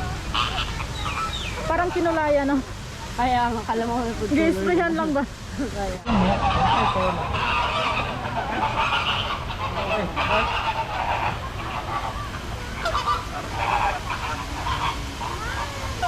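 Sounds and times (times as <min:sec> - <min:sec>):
flamingos honking: 0:00.0 - 0:16.0.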